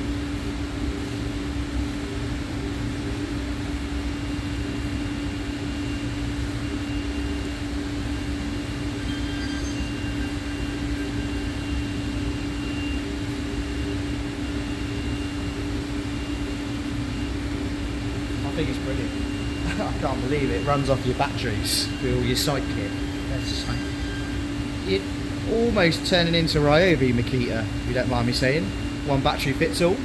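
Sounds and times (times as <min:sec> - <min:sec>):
coffee maker heating water: 0:00.0 - 0:30.0.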